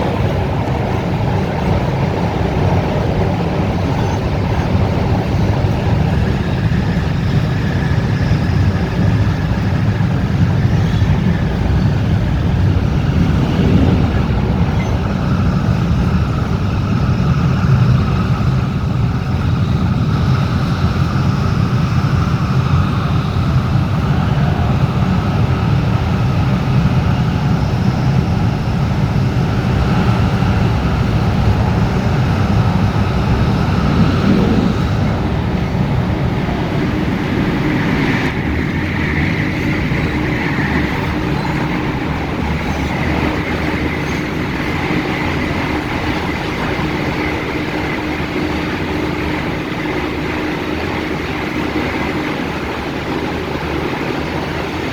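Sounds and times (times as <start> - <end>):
steady hum: 0.0 - 54.9
train wheels rumbling: 0.0 - 54.9.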